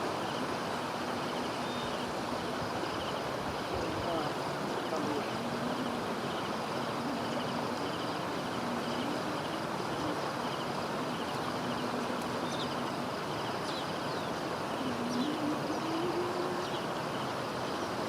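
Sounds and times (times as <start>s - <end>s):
floodwater rushing: 0.0s - 18.0s
insects chirping: 0.0s - 18.0s.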